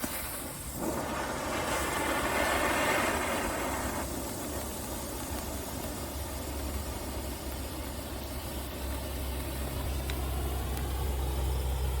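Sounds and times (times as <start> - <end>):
firework fountain hissing: 0.0 - 12.0.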